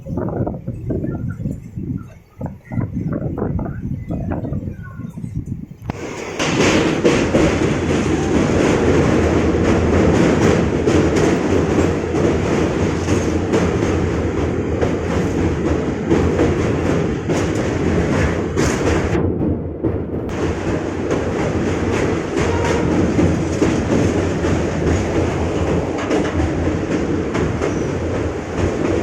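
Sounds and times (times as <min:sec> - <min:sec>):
rail joint clatter: 0:00.0 - 0:29.0
train wheels rumbling on rail: 0:00.0 - 0:29.0.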